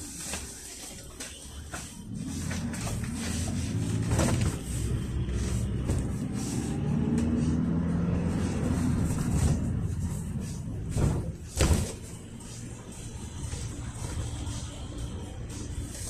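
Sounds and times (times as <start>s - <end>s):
minibus engine rumble: 0.0s - 16.0s
road noise: 0.0s - 16.0s.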